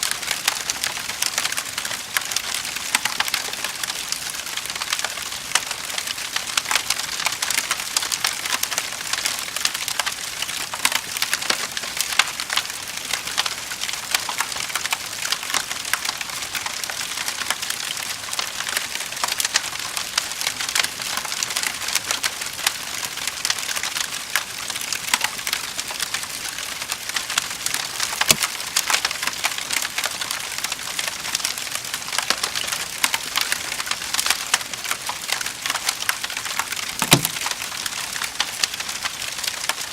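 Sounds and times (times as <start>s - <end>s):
wood fire crackling and popping: 0.2s - 24.5s, 27.0s - 39.9s.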